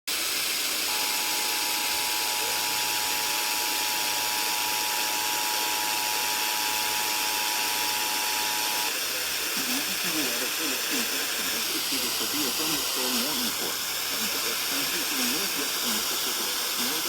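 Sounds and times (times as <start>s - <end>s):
radio static hiss: 0.1s - 17.0s.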